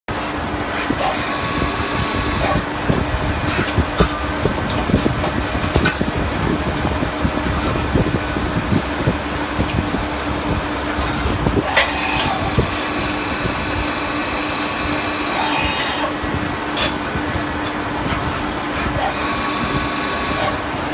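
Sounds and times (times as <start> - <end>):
high machine whine: 0.1 - 20.9
machine hum: 0.1 - 20.9.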